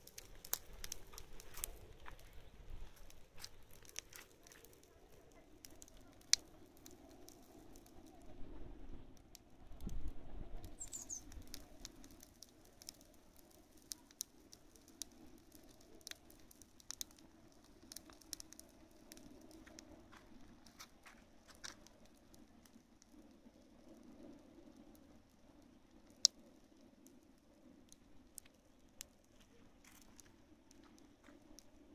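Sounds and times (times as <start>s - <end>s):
hay burning crackling: 0.0s - 31.9s.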